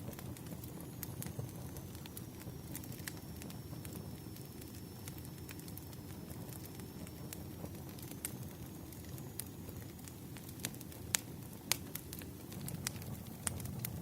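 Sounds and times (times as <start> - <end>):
low rush of flames: 0.0 - 14.0
wood fire crackling and popping: 0.0 - 14.0.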